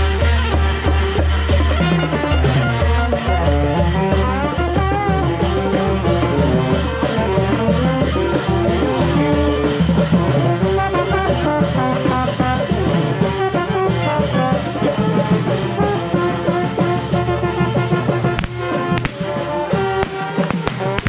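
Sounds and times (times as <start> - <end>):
brass band music with drums: 0.0 - 21.0.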